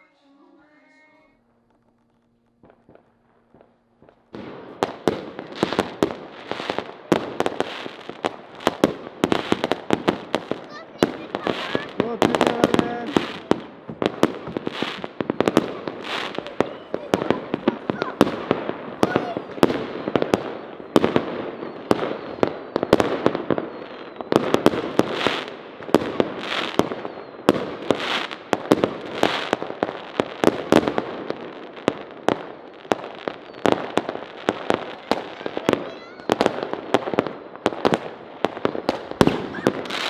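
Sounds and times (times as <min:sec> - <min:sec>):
fireworks crackling: 0:00.7 - 0:40.0
fireworks bangs: 0:01.5 - 0:40.0.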